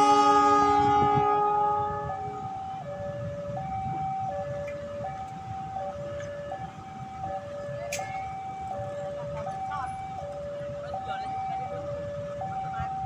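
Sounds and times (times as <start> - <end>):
two-tone railway warning alarm: 0.0 - 13.0.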